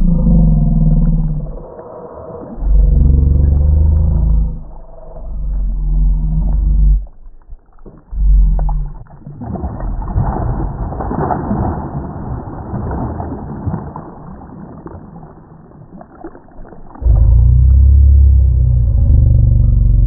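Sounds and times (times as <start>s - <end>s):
water splashing and churning: 0.0s - 18.7s.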